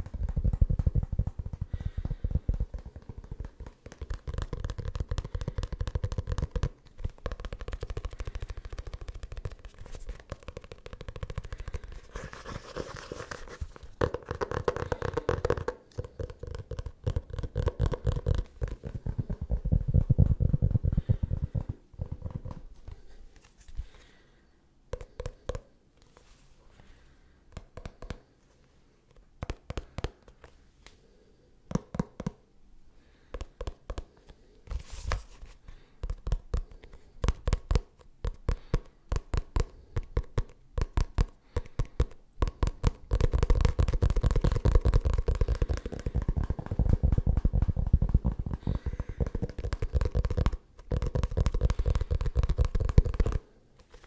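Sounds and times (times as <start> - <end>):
fingers tapping on leather notebook: 0.0 - 23.1, 24.9 - 25.7, 27.5 - 28.3, 29.1 - 30.5, 31.7 - 32.4, 33.2 - 34.3, 35.7 - 54.0.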